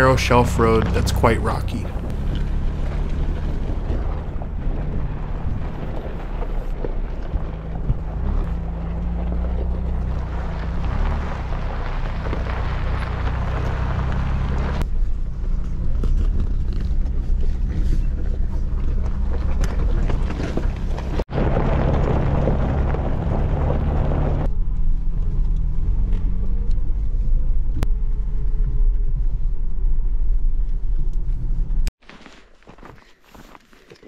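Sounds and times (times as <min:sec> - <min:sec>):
vehicle engine running: 0:00.0 - 0:31.9
tyre and road noise: 0:00.0 - 0:34.0.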